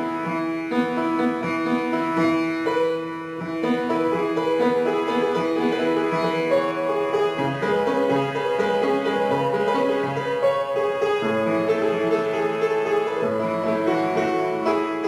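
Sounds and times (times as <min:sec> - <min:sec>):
out-of-tune piano playing: 0:00.0 - 0:15.0.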